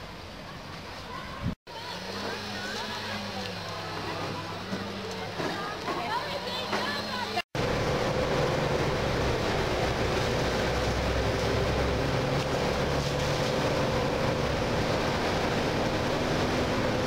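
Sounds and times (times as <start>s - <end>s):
bus engine and tyres droning: 0.0s - 17.0s.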